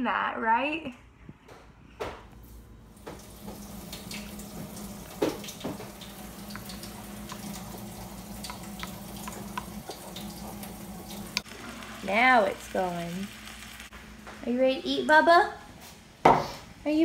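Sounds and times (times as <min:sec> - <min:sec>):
background hiss and hum: 0:00.9 - 0:17.0.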